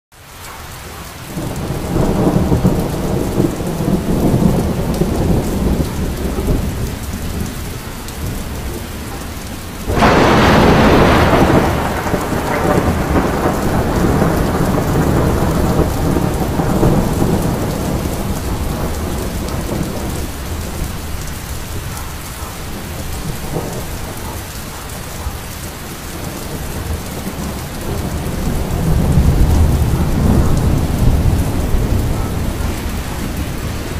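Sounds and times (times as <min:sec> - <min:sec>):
steady rain: 0:00.1 - 0:33.9
loud thunderclap: 0:01.3 - 0:07.6, 0:09.8 - 0:21.9, 0:22.8 - 0:24.4, 0:26.1 - 0:33.9
rolling thunder: 0:01.3 - 0:33.9.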